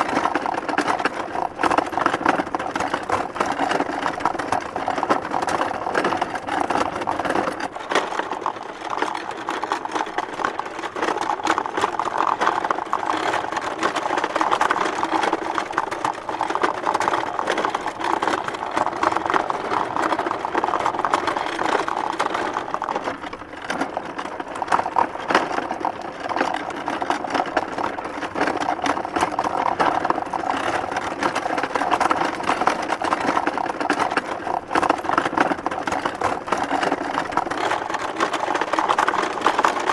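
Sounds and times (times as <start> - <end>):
wooden cart rattling: 0.0 - 39.9.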